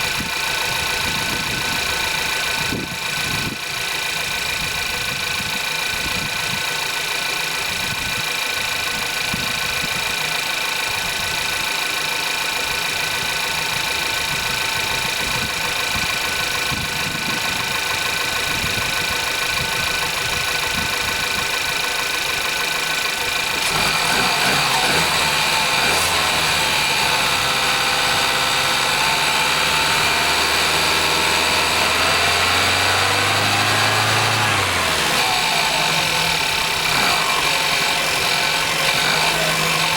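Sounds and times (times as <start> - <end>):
petrol engine idling: 0.0 - 39.9.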